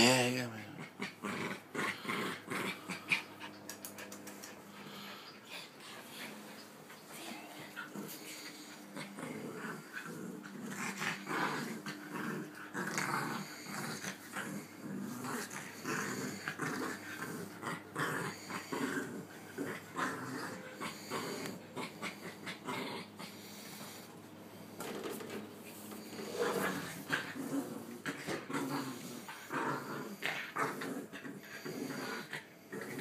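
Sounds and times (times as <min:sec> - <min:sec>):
dogs growling and snarling: 0:00.0 - 0:24.9, 0:25.7 - 0:33.0.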